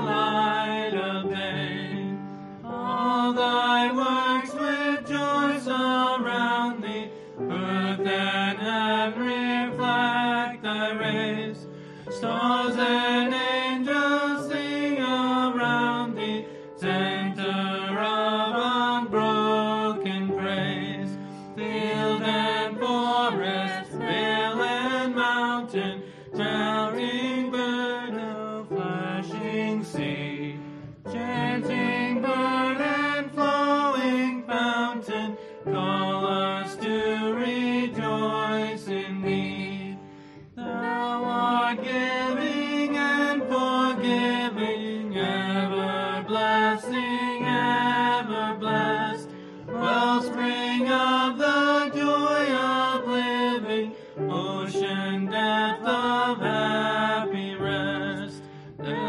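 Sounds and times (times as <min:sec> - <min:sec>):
people singing a hymn: 0:00.0 - 0:59.0.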